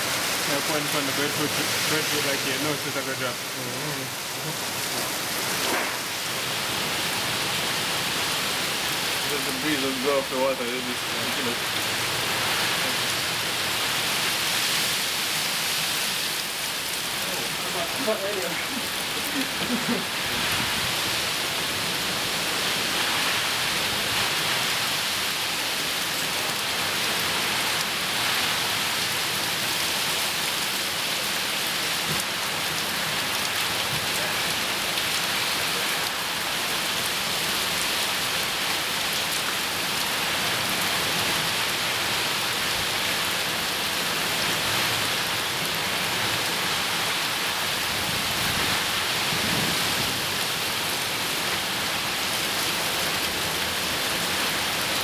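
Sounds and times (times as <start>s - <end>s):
heavy rain on trees: 0.0s - 55.0s.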